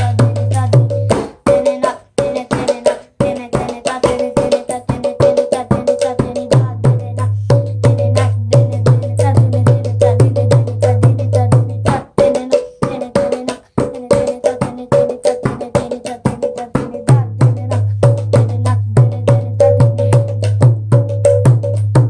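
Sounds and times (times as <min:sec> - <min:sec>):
fast hand drumming: 0:00.0 - 0:22.0.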